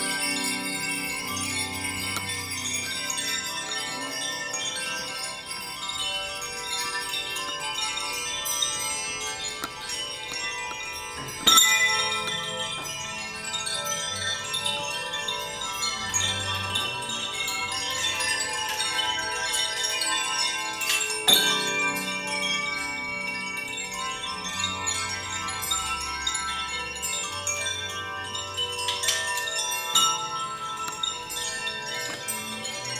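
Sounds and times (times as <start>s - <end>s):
bells and chimes ringing: 0.0s - 32.9s.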